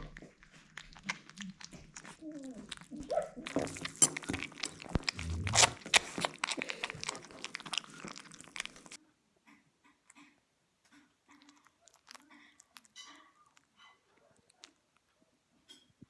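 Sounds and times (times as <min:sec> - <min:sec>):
puppies crunching food: 0:00.0 - 0:09.0, 0:09.8 - 0:15.8.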